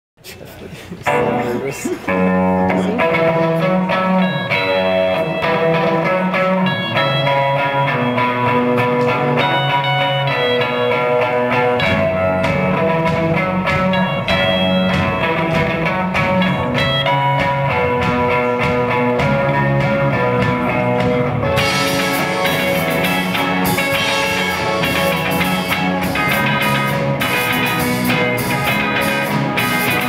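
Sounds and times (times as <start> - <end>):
live band instrumental: 0.7 - 30.0
picked guitar notes: 1.0 - 30.0.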